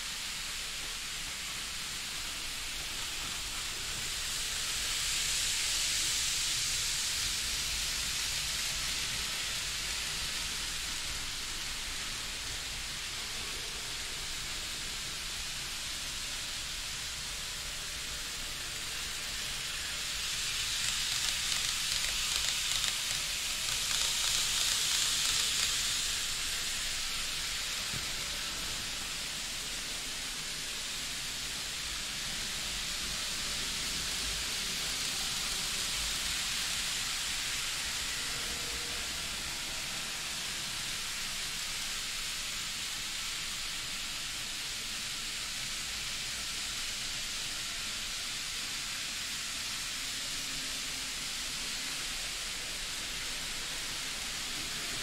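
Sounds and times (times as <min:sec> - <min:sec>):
model trains hissing and rumbling: 0:00.0 - 0:55.0.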